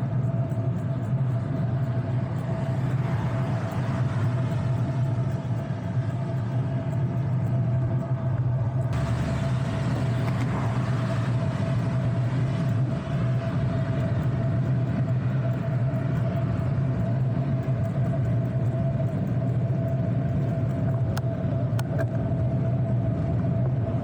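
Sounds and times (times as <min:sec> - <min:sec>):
bicycle road noise hum: 0:00.0 - 0:24.0
thin steady tone: 0:00.0 - 0:24.0.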